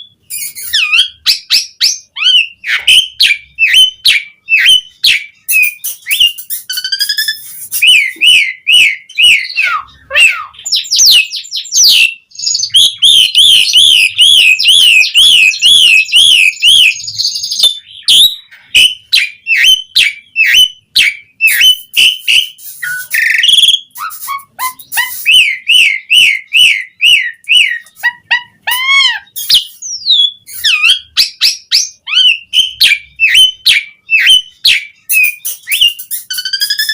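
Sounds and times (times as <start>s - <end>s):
starling singing: 0.0s - 36.9s.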